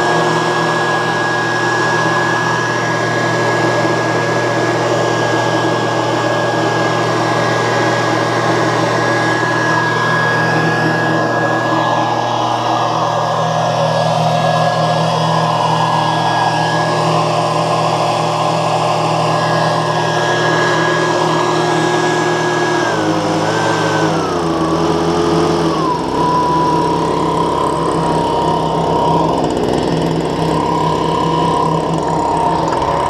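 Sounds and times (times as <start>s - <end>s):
leaf blower fan whine: 0.0s - 33.0s.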